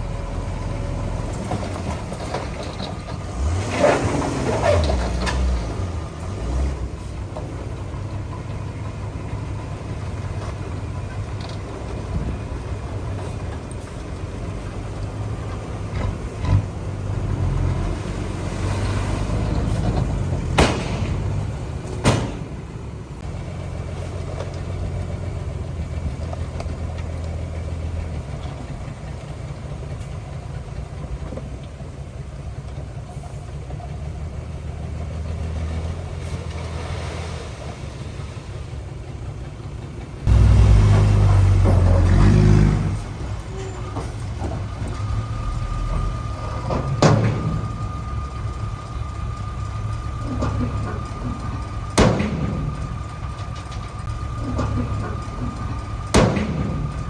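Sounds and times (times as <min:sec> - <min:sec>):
diesel machinery engine rumble: 0:00.0 - 0:57.0.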